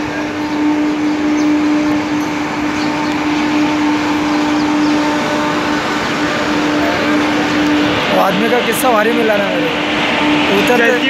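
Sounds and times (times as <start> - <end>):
constant low hum: 0.0 - 11.0
wheels rumbling on rail: 0.0 - 11.0.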